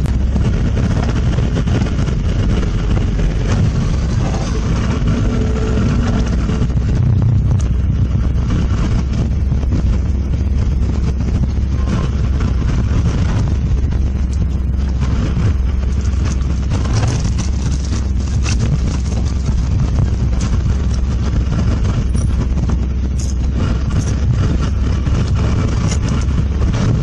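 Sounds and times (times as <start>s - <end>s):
road and wind noise: 0.0s - 27.0s
vehicle engine running: 0.0s - 27.0s.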